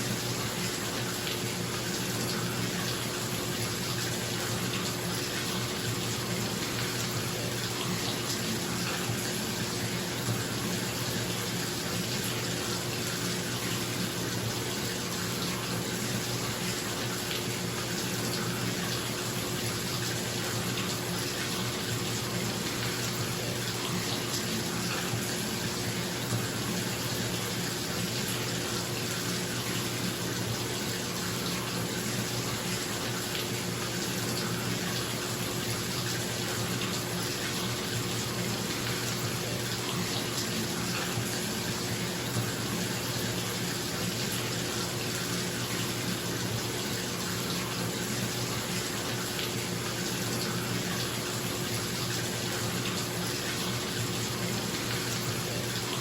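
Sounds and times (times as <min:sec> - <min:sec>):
water pouring into bathtub: 0:00.0 - 0:56.0.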